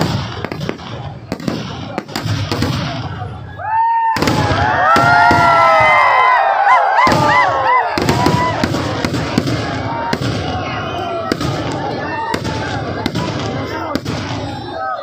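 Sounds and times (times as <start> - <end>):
fireworks crackling and popping: 0.0 - 3.4, 4.2 - 6.1, 7.0 - 14.7
whistling fireworks: 0.0 - 15.0.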